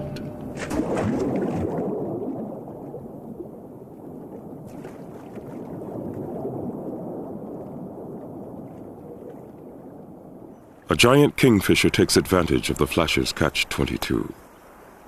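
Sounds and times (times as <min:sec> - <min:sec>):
muffled churning gurgling water: 0:00.0 - 0:15.0.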